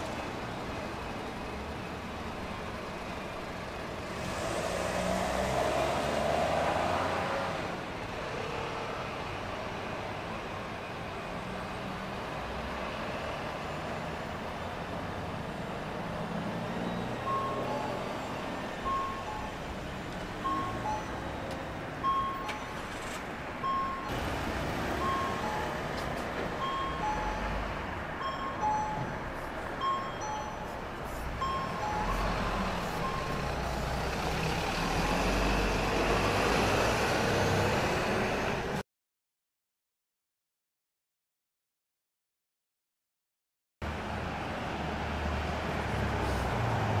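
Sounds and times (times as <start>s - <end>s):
bus engine running: 0.0s - 6.0s, 6.8s - 38.8s
traffic noise: 0.0s - 38.8s, 43.8s - 47.0s.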